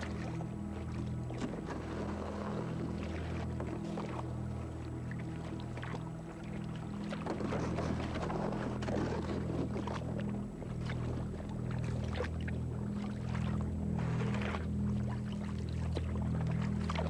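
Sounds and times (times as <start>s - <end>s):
kayak paddles splashing in water: 0.0s - 17.0s
low synthesizer chords: 0.0s - 17.0s.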